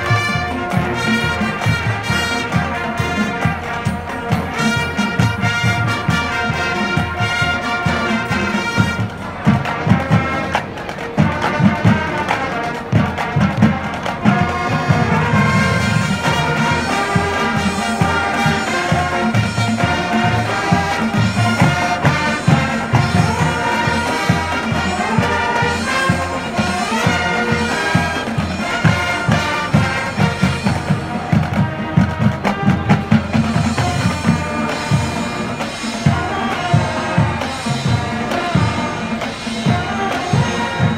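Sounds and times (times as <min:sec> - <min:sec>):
brass playing melody: 0:00.0 - 0:40.9
marching drums and percussion: 0:00.0 - 0:40.9.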